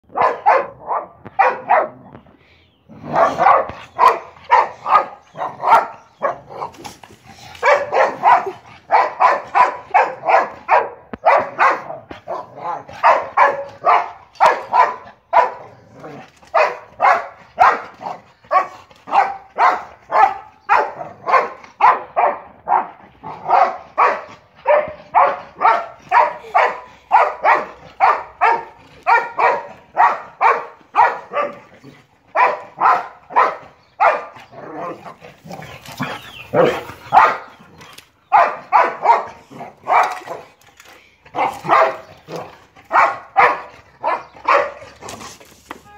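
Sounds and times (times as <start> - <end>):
dog barking rapidly: 0.1 - 2.0, 3.0 - 6.8, 7.6 - 15.7, 16.5 - 31.6, 32.3 - 35.2, 36.0 - 37.6, 38.3 - 40.5, 41.4 - 45.0.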